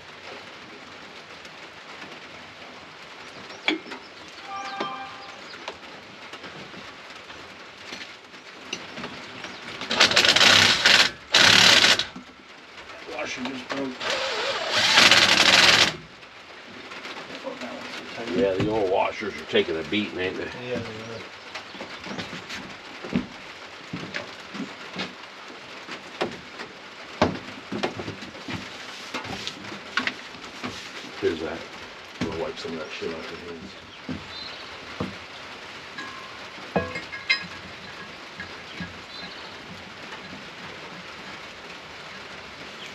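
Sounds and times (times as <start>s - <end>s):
rain falling on a surface: 0.0s - 42.9s.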